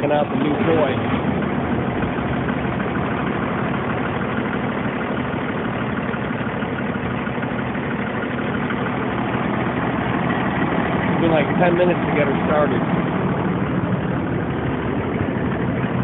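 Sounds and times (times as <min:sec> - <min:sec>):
large engine idling: 0:00.0 - 0:16.0.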